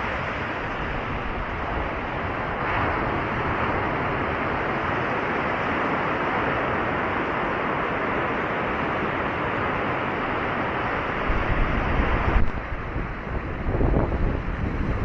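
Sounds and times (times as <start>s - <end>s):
ocean surf breaking on rocks: 0.0s - 15.0s
wind buffeting microphone: 0.0s - 15.0s.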